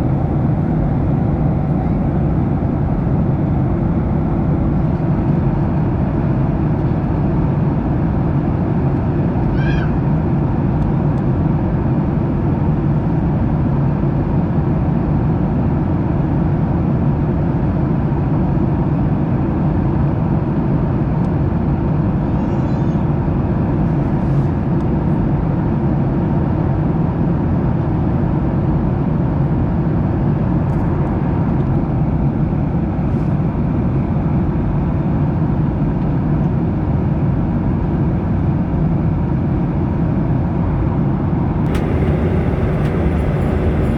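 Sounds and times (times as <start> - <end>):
airliner cabin engine rush: 0.0 - 43.9.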